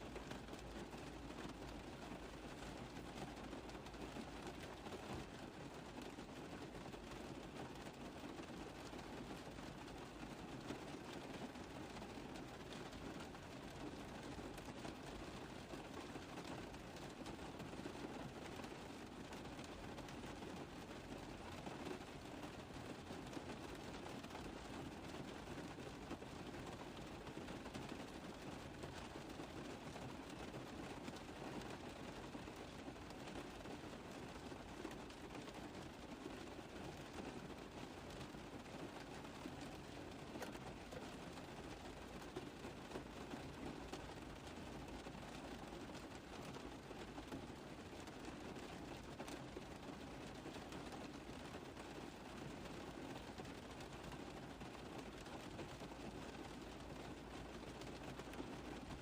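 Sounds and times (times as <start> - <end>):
rain on a car roof: 0.0 - 59.0.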